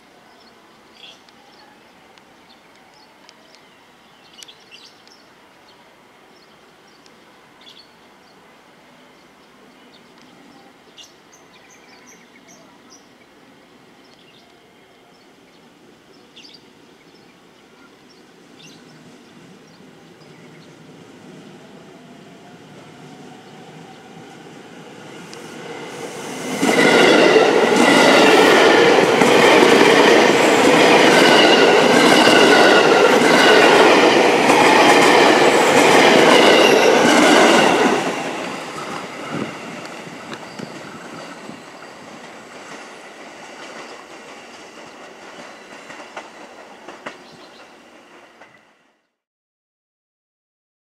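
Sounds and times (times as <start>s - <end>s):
electric train passing: 0.0s - 49.0s.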